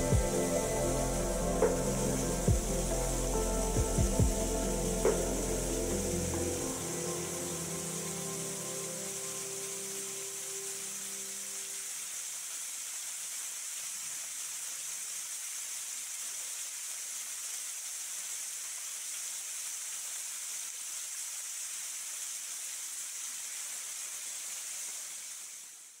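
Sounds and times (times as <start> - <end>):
waterfall pouring into a pool: 0.0 - 26.0.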